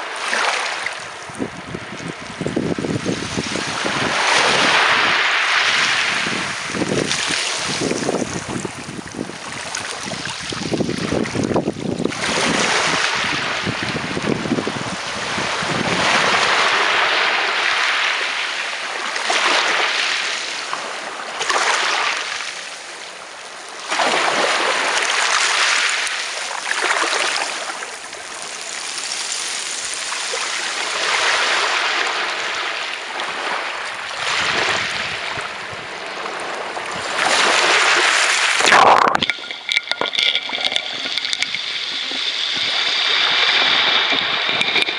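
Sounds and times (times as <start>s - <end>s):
sea waves washing on beach: 0.0s - 44.9s.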